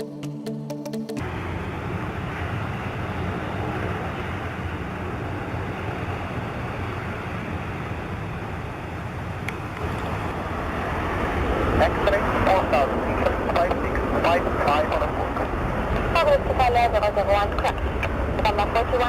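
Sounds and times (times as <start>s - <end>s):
aircraft engines roaring: 0.0s - 19.0s.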